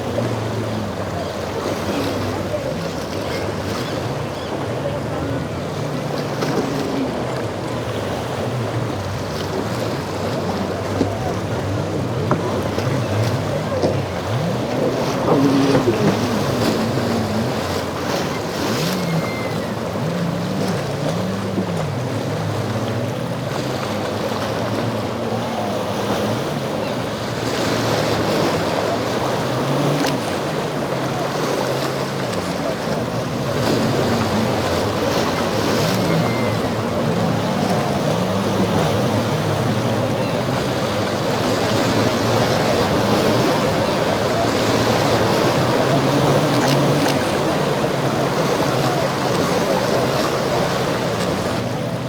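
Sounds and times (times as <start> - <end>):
motorboat engines revving: 0.0 - 52.0
surf rushing: 0.0 - 52.0.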